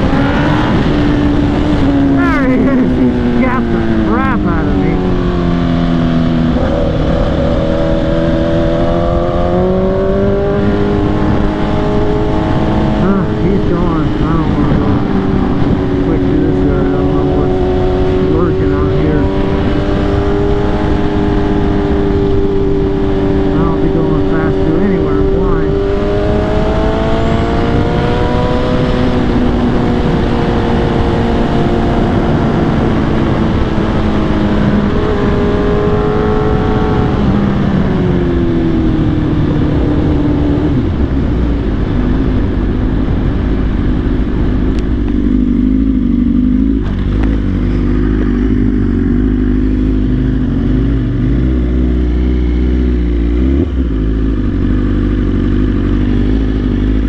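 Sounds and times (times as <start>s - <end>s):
wind rush: 0.0s - 51.7s
motorcycle engine revving: 0.0s - 57.0s.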